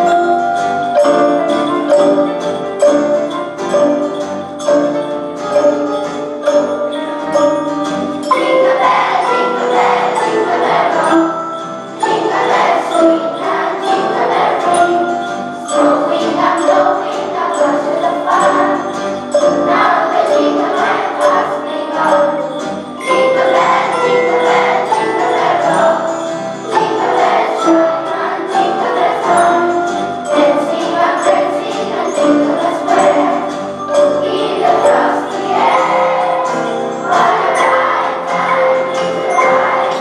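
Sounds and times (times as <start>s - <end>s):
children's choir singing: 0.0s - 40.0s
xylophones and metallophones: 0.0s - 40.0s.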